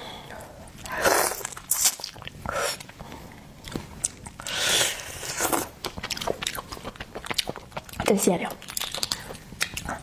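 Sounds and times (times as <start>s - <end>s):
seafood being chewed: 0.8s - 10.0s.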